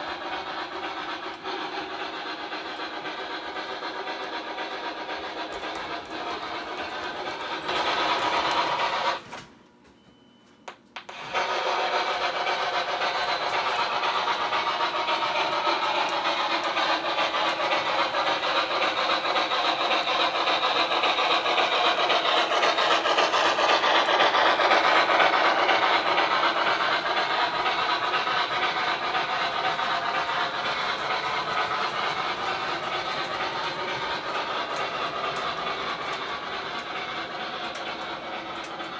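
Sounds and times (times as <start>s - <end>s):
model train running on track: 0.0s - 9.4s, 11.0s - 38.9s.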